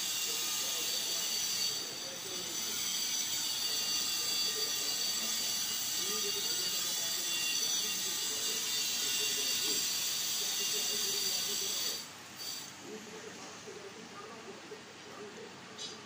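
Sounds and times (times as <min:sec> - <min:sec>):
faint indistinct voices: 0:00.0 - 0:16.0.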